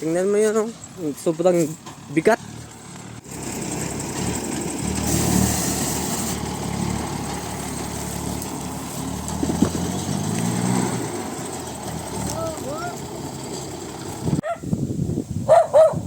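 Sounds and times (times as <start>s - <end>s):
truck engine running: 0.0s - 14.4s.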